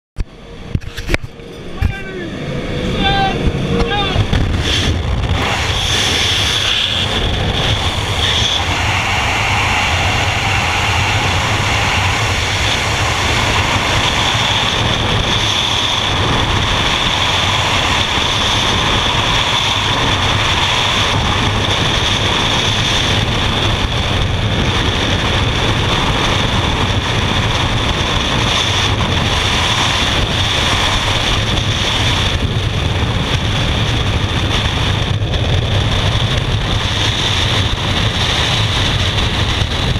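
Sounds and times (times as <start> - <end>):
wind rushing over microphone: 0.2 - 39.9.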